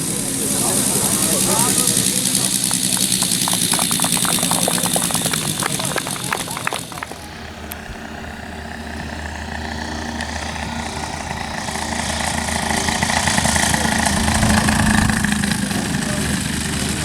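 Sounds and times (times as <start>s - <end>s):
model airplane engine: 0.0s - 17.0s.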